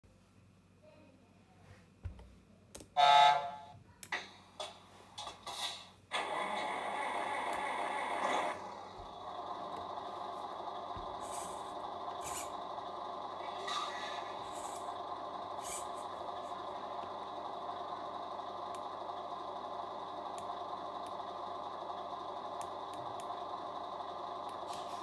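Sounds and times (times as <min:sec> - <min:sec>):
simulated truck engine idling: 0:03.1 - 0:25.0.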